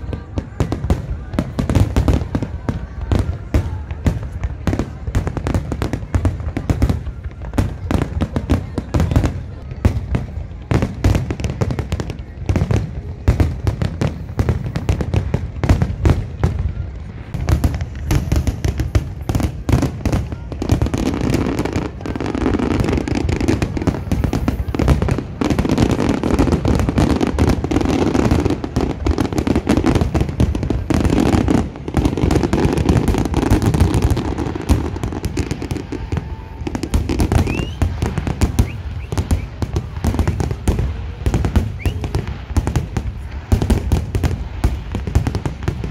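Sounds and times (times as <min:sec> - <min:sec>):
fireworks bursting and banging: 0:00.0 - 0:45.9.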